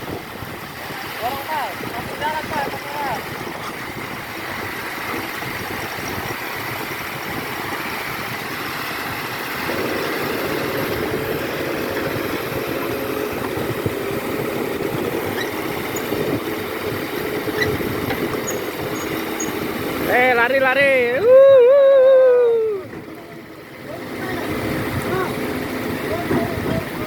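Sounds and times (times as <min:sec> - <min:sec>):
heavy diesel engine under load: 0:00.0 - 0:27.0.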